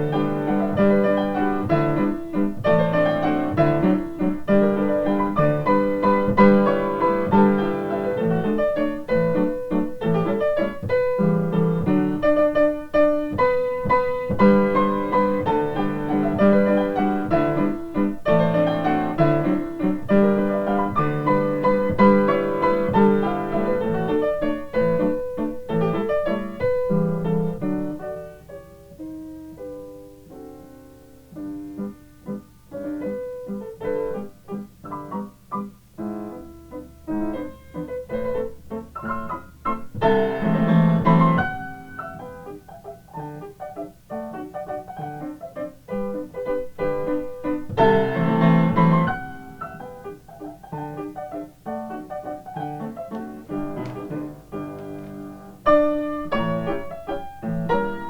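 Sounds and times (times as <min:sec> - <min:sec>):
piano playing a waltz: 0:00.0 - 0:58.0.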